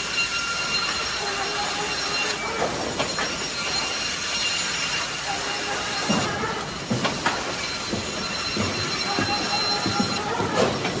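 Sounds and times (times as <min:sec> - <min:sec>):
high steady machine whine: 0:00.0 - 0:11.0
timber machinery din: 0:00.0 - 0:11.0
knocks and clatter: 0:00.7 - 0:11.0.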